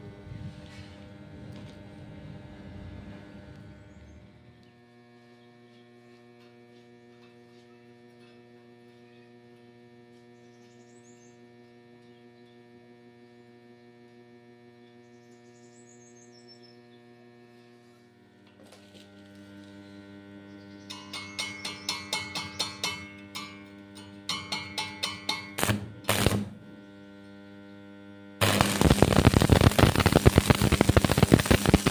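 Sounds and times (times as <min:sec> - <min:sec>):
electrical mains hum: 0:00.0 - 0:31.9.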